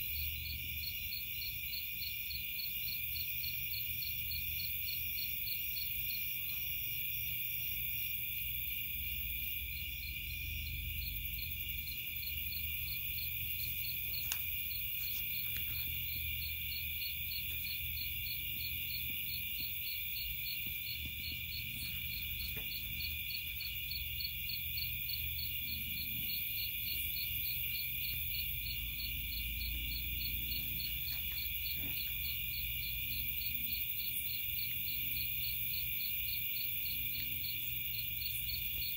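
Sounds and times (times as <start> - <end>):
insects buzzing: 0.0 - 38.9
pulsing cricket trill: 0.0 - 38.9.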